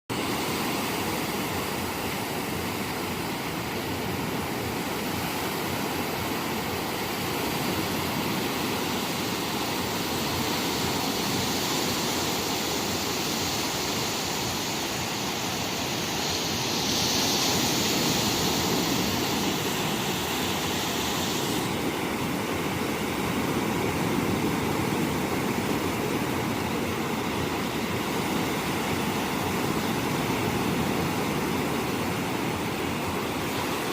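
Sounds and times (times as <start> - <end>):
sea surf washing onto beach: 0.1 - 33.9.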